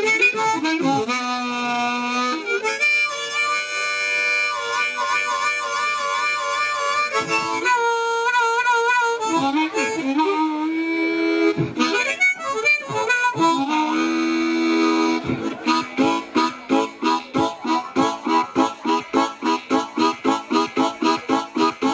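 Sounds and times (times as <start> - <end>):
blues harmonica playing: 0.0 - 21.9.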